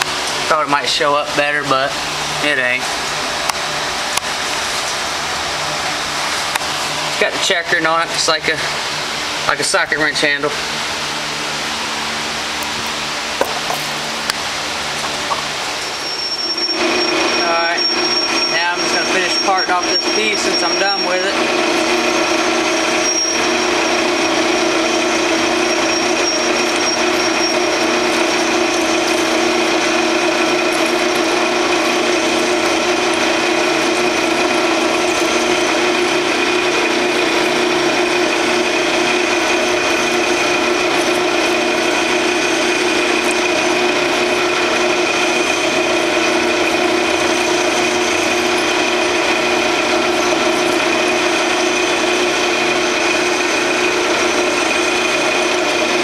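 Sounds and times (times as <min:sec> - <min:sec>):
metal lathe running: 0:00.0 - 0:56.0.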